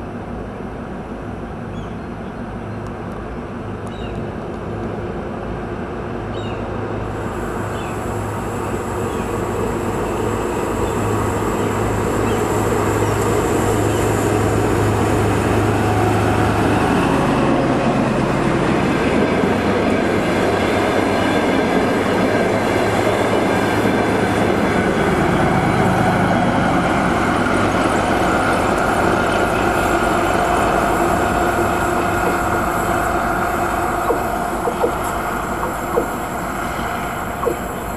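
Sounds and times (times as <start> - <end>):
train wheels rumbling on rails: 3.0 - 37.9
diesel engine hum: 6.7 - 37.9.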